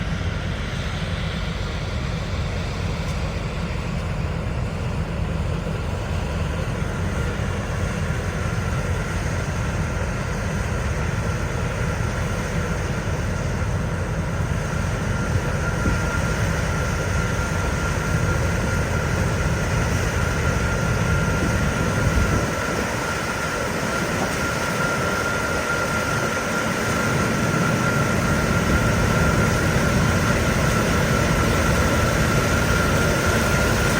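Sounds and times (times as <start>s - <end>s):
combine harvester machinery drone: 0.0s - 33.9s.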